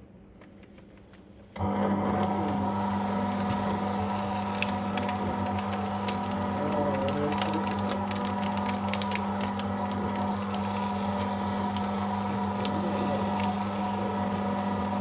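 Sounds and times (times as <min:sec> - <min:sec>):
paper crackling: 0:00.2 - 0:01.5, 0:02.4 - 0:15.0
paper shredder motor humming: 0:01.6 - 0:15.0.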